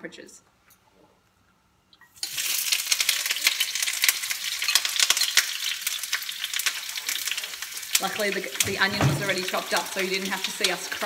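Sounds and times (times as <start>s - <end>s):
onion sizzling in oil: 2.1s - 11.0s.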